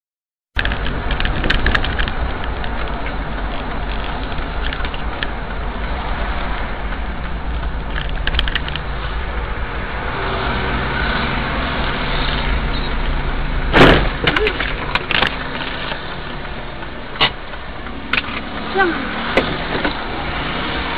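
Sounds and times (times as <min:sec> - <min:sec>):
car engine and road noise: 0:00.5 - 0:20.9.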